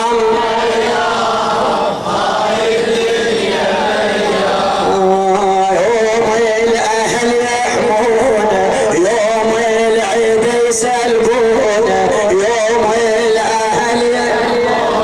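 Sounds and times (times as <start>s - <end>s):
choir-like chanting: 0.0s - 15.0s.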